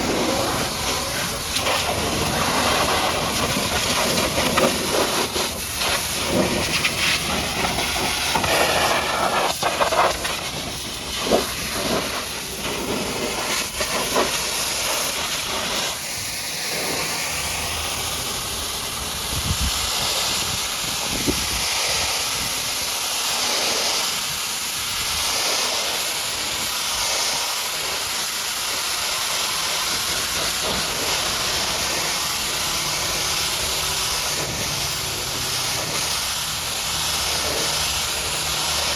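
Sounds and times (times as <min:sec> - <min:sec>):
pressure washer jet spraying: 0:00.0 - 0:38.9.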